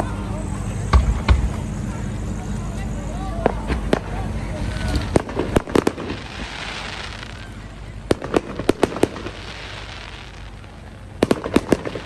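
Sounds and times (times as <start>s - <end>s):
firework hiss: 0.0s - 12.0s
fireworks bangs: 0.8s - 1.9s, 3.4s - 12.0s.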